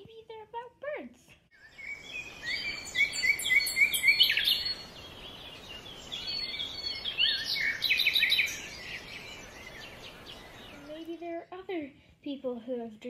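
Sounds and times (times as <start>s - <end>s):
birds chirping: 1.5s - 12.0s.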